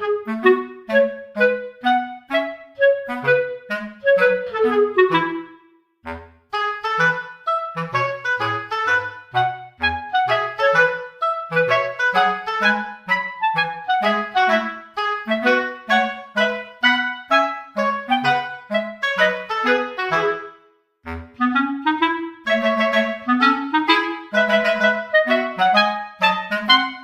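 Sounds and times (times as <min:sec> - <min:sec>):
bouncy background music: 0:00.0 - 0:27.0.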